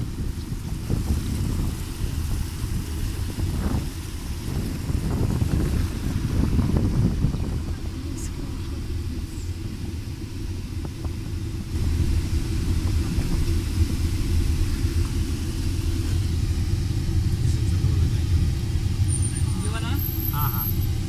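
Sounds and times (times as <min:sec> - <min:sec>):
car rumble from inside cabin: 0:00.0 - 0:21.0.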